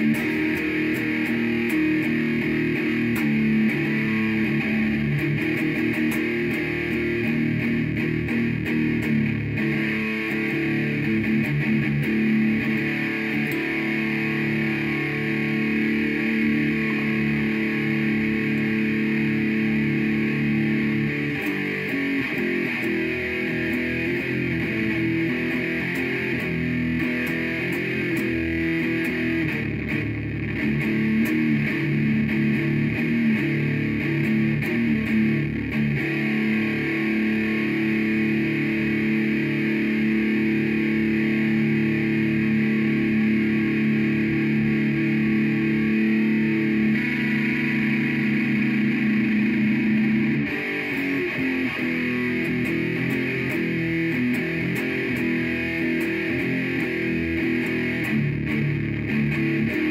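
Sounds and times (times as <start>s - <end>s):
electric guitar chords and notes: 0.0s - 59.9s.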